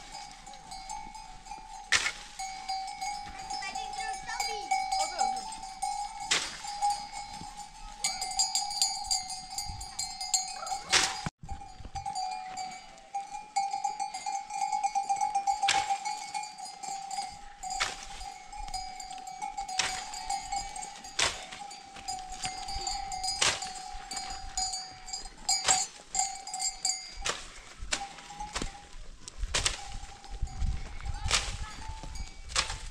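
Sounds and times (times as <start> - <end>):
animal bells ringing: 0.0 - 32.9.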